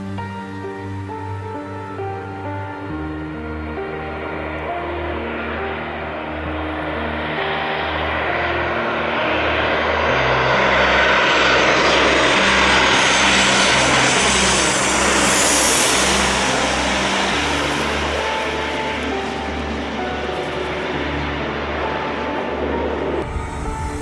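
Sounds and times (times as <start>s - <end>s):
high engine whine: 0.0s - 24.0s
jet airliner passing: 0.0s - 24.0s
trance music: 0.0s - 24.0s.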